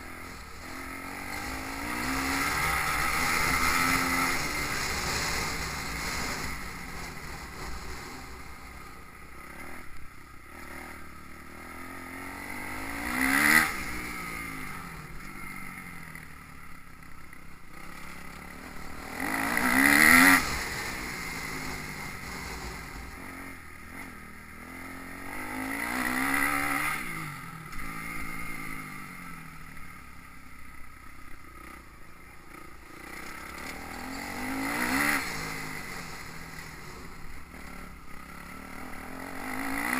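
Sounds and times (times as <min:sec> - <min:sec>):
motocross bikes passing: 0:00.0 - 0:39.9.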